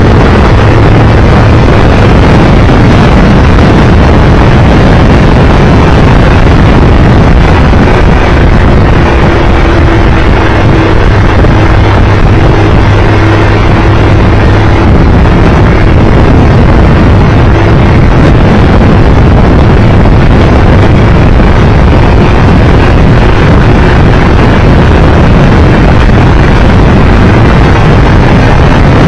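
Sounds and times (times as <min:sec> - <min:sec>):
motorcycle engine drone: 0:00.0 - 0:29.0
wind rush on microphone: 0:00.0 - 0:29.0.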